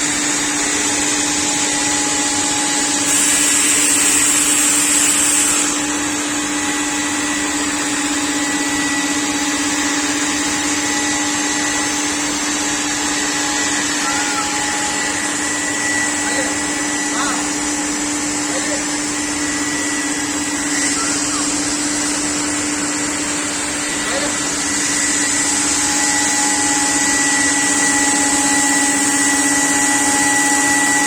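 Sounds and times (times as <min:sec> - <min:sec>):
router machine humming and hissing: 0:00.0 - 0:31.0.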